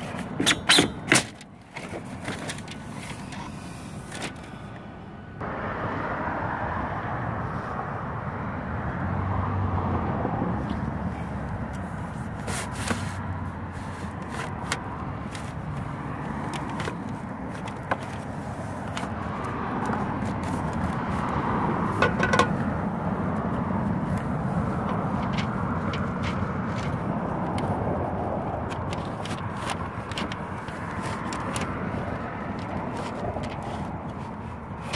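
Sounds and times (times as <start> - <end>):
outdoor background noise: 0.0 - 34.9.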